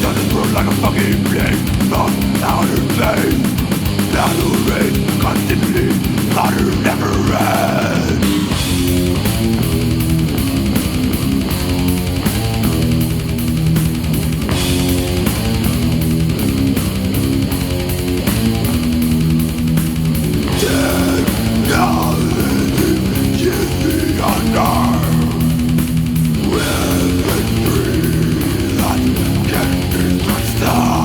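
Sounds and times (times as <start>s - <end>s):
death metal music: 0.0s - 31.0s.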